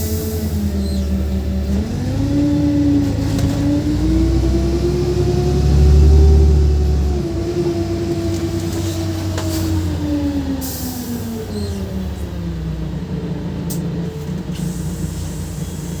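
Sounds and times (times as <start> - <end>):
bus engine slowing: 0.0 - 16.0.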